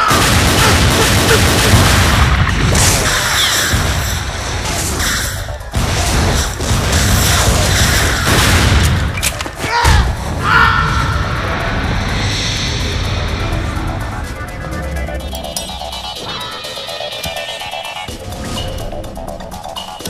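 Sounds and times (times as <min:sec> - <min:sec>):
film music: 0:00.0 - 0:20.0.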